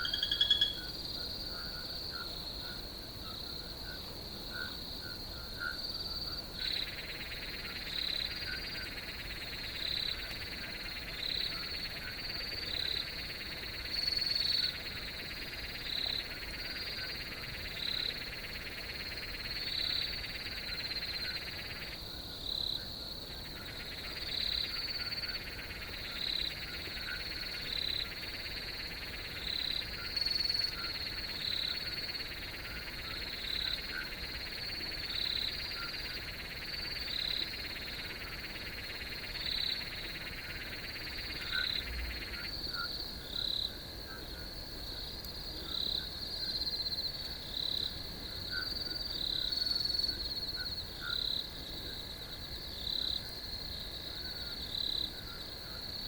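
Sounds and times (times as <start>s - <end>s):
crickets trilling: 0.0s - 56.0s
low continuous frog trill: 0.0s - 56.0s.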